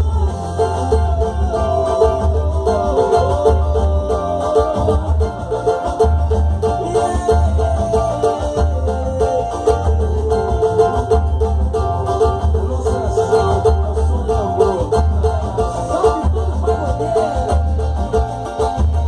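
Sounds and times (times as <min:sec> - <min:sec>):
plucked banjo: 0:00.0 - 0:19.0
steady bass beat: 0:00.0 - 0:19.0.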